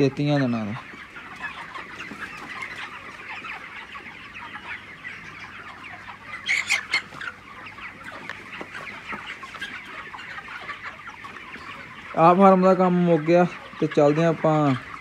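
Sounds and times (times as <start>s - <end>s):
chickens chirping and clucking: 0.0s - 15.0s.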